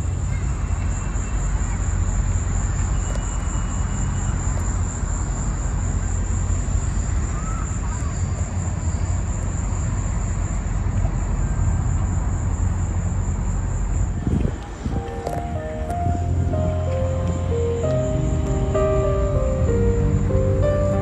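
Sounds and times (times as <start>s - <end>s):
low rumble of the city: 0.0s - 21.0s
high buzz of insects: 0.1s - 21.0s.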